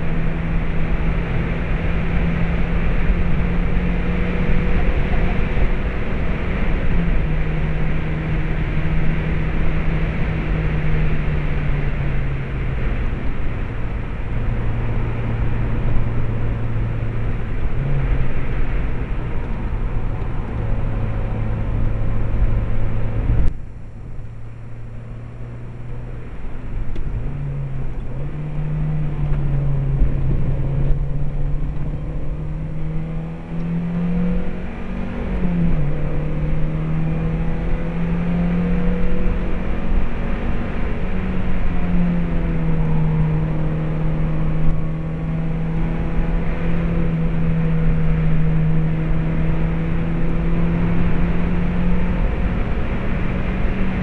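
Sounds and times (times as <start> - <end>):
car engine running at speed: 0.0 - 54.0.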